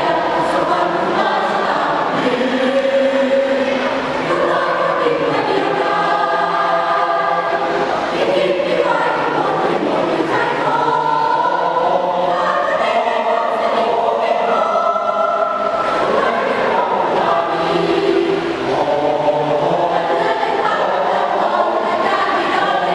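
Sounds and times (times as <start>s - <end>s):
choir singing in harmony: 0.0s - 22.9s.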